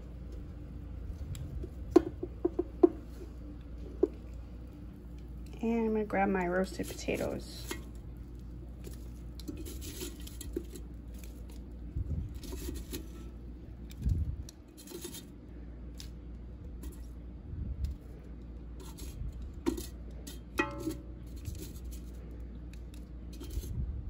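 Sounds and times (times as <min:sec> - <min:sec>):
tongs clicking and scraping on basket: 0:03.6 - 0:17.1, 0:17.8 - 0:23.7.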